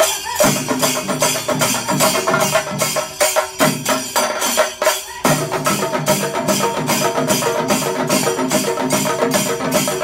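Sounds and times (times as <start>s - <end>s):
chenda drums playing fast rhythm: 0.0s - 10.0s
hand cymbals: 0.0s - 10.0s.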